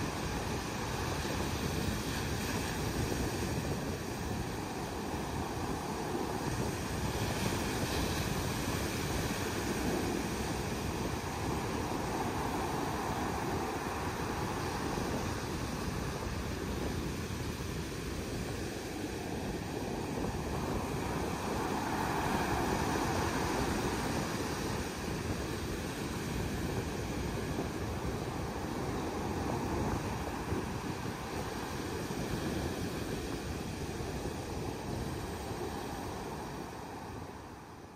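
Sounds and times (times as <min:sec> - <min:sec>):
surf breaking on beach: 0:00.0 - 0:37.7.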